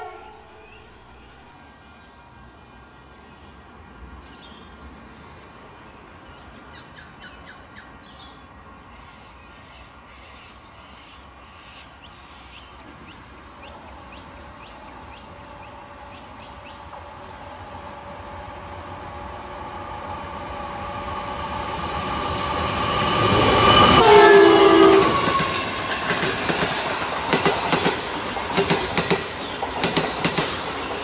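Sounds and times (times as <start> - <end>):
diesel train hum: 0.0 - 31.0
birds chirping: 0.5 - 24.2, 25.0 - 31.0.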